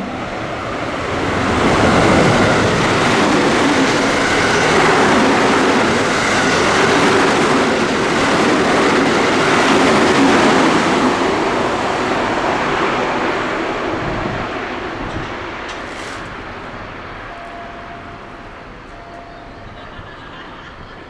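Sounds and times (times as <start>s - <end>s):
train passing on rails: 0.0s - 21.0s.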